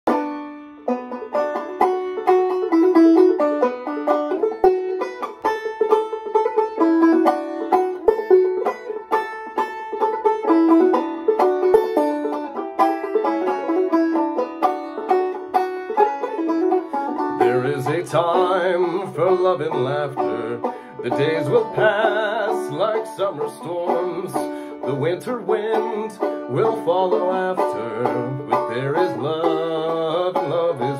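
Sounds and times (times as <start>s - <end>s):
banjo plucked melody: 0.1s - 30.9s.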